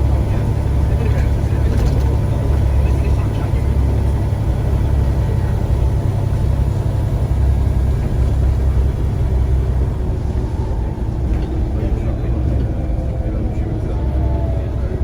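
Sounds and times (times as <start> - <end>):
bus diesel engine rumbling: 0.0 - 15.0
road and body noise: 0.0 - 15.0.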